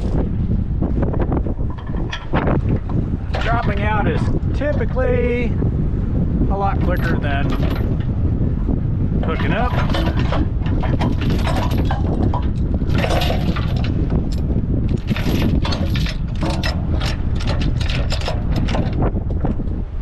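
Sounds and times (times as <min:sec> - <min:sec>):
chain clanking on steel deck: 0:00.0 - 0:05.4, 0:06.6 - 0:19.8
low steady rumble: 0:00.0 - 0:20.0.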